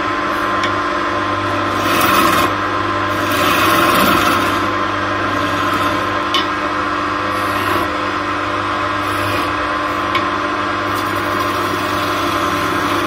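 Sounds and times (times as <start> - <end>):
wood lathe humming: 0.0 - 13.0.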